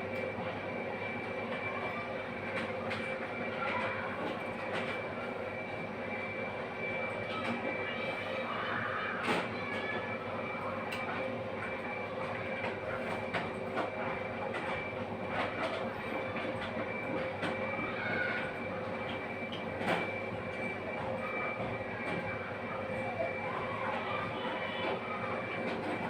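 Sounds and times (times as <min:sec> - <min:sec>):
machine running with hum: 0:00.0 - 0:26.0.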